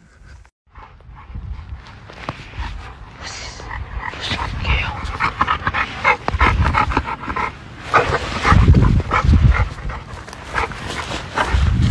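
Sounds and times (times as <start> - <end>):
dogs panting: 0.0 - 11.9.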